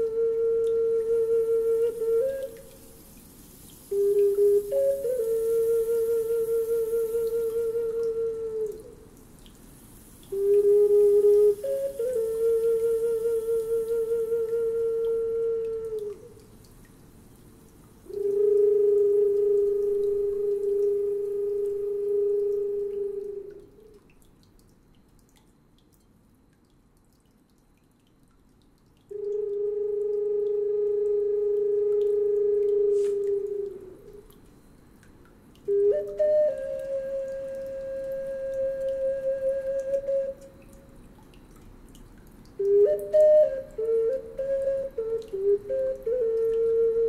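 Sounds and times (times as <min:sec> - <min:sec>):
small wind instrument notes: 0:00.0 - 0:09.4, 0:10.2 - 0:16.6, 0:18.0 - 0:24.0, 0:29.1 - 0:41.6, 0:42.5 - 0:47.0.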